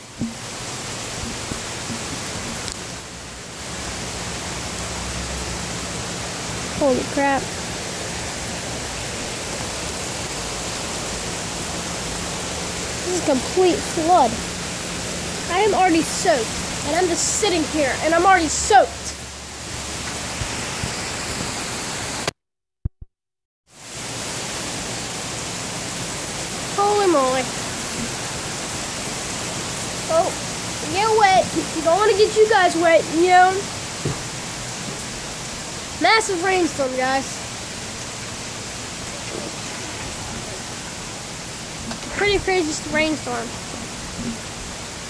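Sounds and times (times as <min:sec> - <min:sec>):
heavy rain falling: 0:00.0 - 0:22.3, 0:23.7 - 0:45.0.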